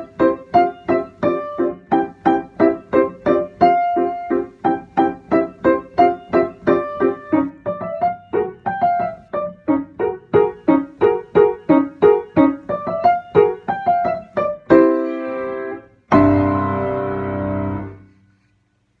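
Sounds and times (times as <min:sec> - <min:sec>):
grand piano playing: 0:00.0 - 0:18.1.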